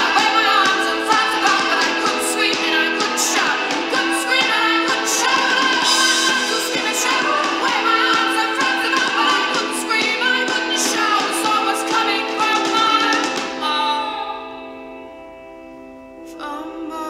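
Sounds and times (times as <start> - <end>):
person singing over instruments: 0.0 - 14.9, 16.2 - 17.0
held music chords: 0.0 - 17.0.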